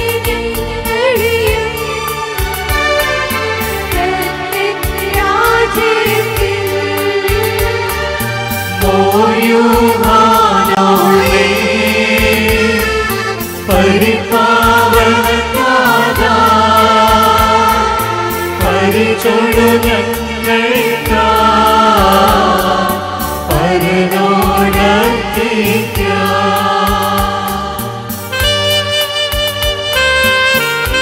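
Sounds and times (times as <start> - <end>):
mixed choir singing: 0.0 - 28.5
electronic keyboard: 0.0 - 31.0.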